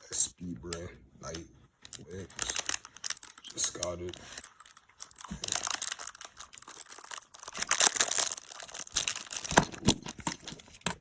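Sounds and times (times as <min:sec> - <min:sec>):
plastic packaging crinkling and tearing: 0:01.8 - 0:10.8.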